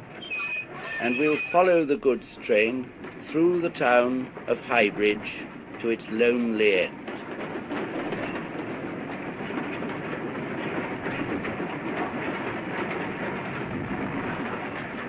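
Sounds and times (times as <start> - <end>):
goods train rumbling: 0.0 - 15.0.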